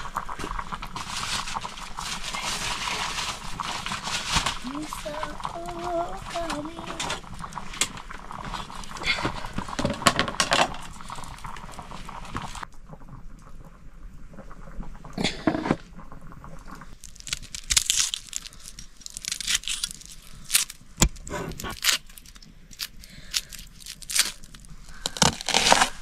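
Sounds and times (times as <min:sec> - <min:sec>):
crinkling and crackling: 0:00.0 - 0:26.0.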